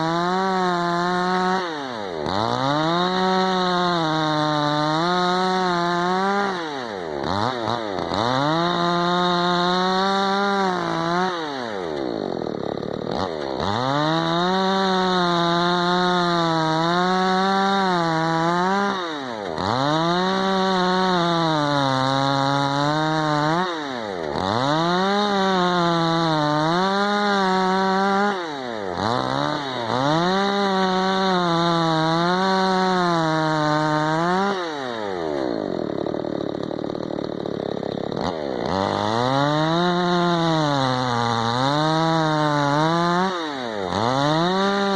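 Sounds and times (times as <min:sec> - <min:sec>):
chainsaw engine revving: 0:00.0 - 0:44.9.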